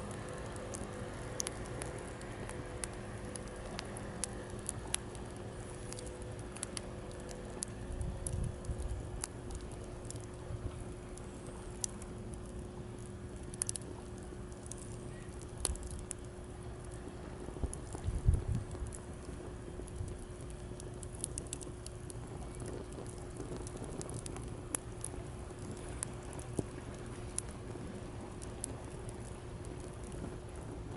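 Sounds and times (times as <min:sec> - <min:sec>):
campfire crackling and popping: 0:00.0 - 0:30.9
low rumble of surf: 0:00.0 - 0:30.9.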